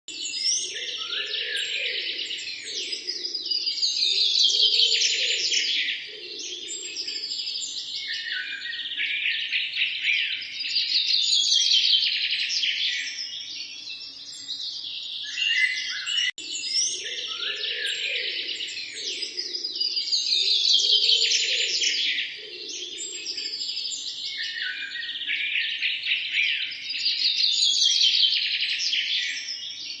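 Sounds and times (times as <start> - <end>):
small birds chirping and trilling: 0.1 - 30.0.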